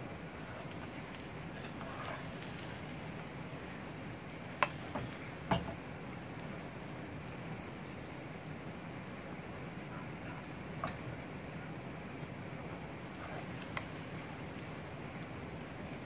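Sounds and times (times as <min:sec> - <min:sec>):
frying pan sizzling: 0:00.0 - 0:16.0.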